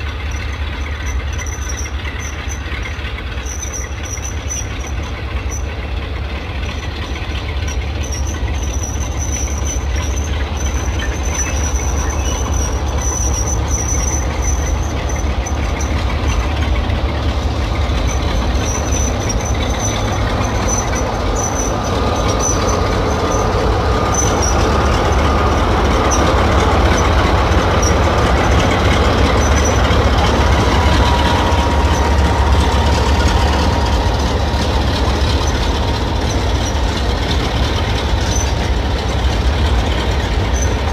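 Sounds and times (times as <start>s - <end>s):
diesel locomotive rumbling: 0.0s - 40.9s
thin squealing tone: 0.0s - 40.9s.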